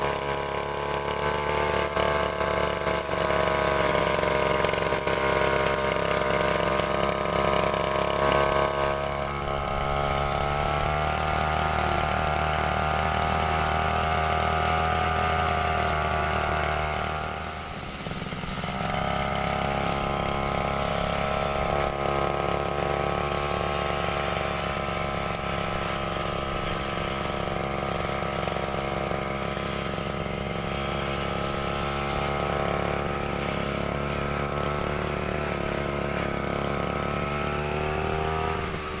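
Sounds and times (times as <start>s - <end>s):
brush cutter engine running: 0.0s - 39.0s.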